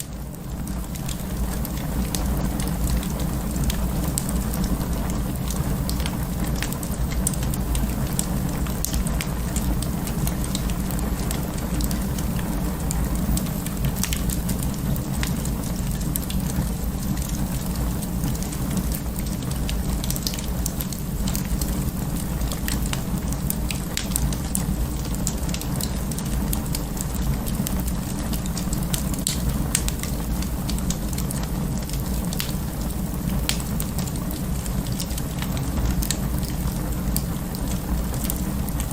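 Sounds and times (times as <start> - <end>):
fire crackles and pops: 0.0 - 38.9
fire flames rumbling: 0.0 - 38.9.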